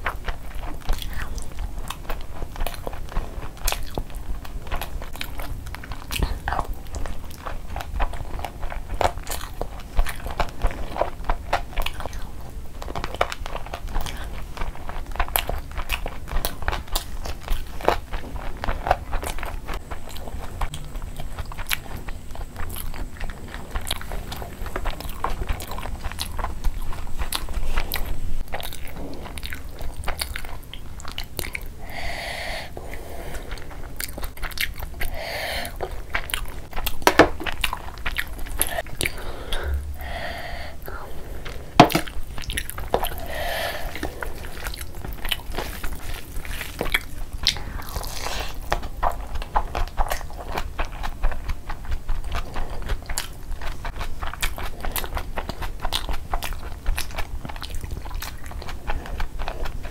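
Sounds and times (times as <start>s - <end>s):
chewing with mouth smacks: 0.0s - 59.9s
hand squelching soft food: 0.0s - 59.9s.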